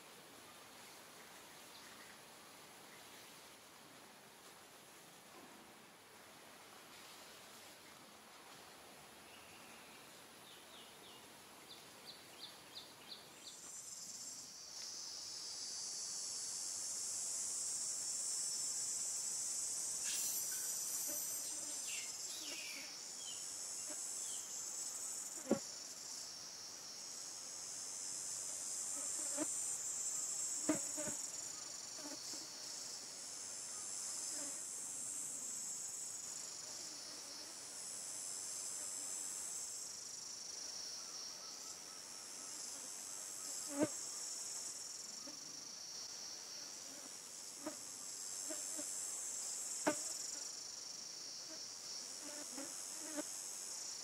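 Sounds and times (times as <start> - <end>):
high-pitched insect chorus: 9.3 - 54.0.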